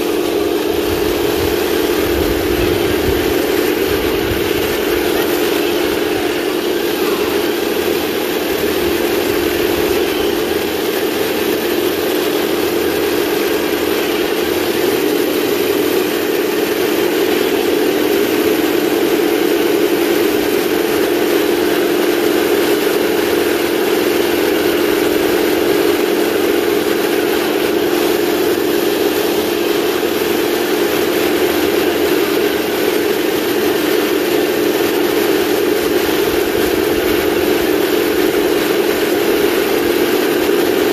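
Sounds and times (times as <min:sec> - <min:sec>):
electric gearbox whine: 0:00.0 - 0:40.9
model tank engine drone: 0:00.0 - 0:40.9.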